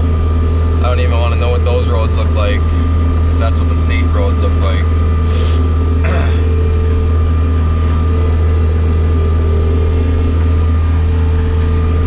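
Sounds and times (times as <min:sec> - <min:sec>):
diesel engine hum: 0:00.0 - 0:12.0
faint steady whine: 0:00.0 - 0:12.0.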